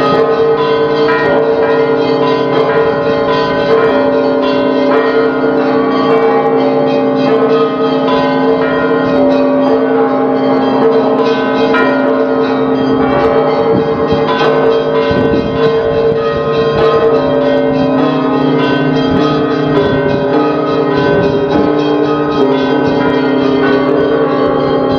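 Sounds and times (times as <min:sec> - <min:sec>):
church bells ringing a peal: 0:00.0 - 0:24.9.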